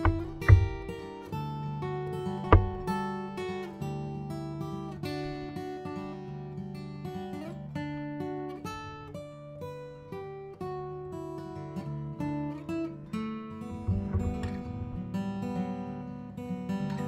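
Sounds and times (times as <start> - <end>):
acoustic guitar plucked notes: 0.0 - 17.0.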